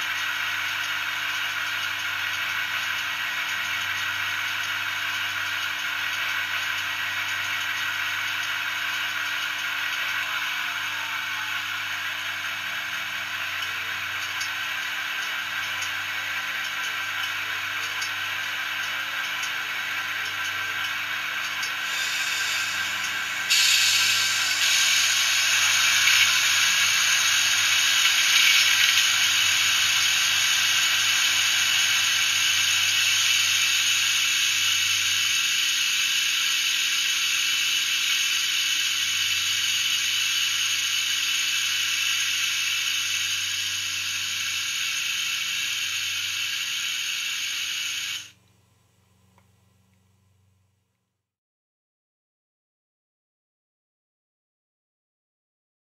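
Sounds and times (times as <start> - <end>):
diesel locomotive whirring hiss: 0.0 - 48.4.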